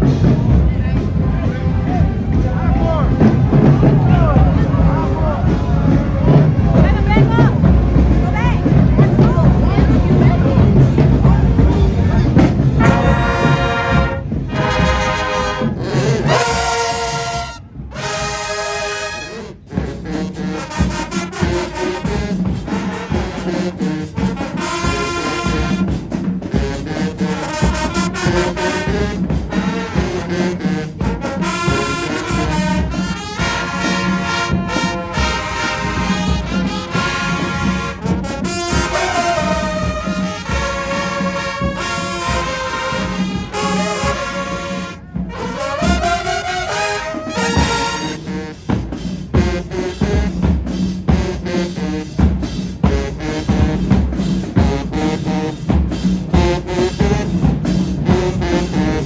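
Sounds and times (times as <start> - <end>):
marching band brass playing chords: 0.0 - 59.0.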